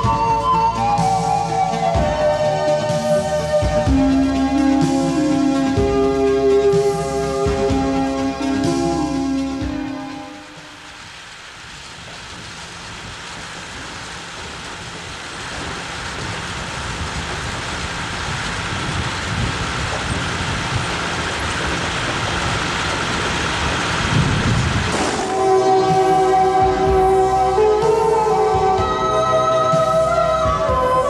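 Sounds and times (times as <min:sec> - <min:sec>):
harvester machinery running: 0:00.0 - 0:31.0.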